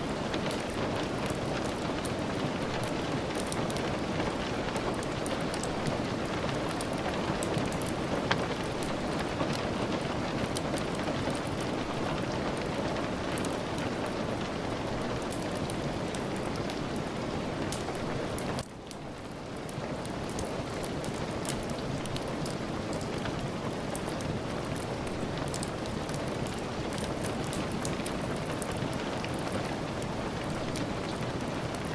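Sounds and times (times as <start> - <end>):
small crackles and ticks: 0.0 - 31.9
steady rain: 0.0 - 31.9.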